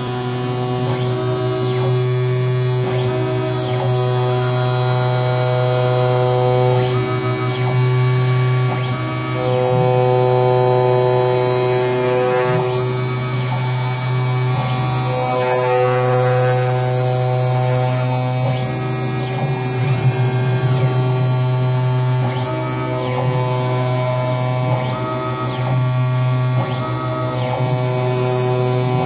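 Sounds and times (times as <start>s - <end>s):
cutting machine electric hum: 0.0s - 29.0s
high sustained machine tones: 0.0s - 29.0s.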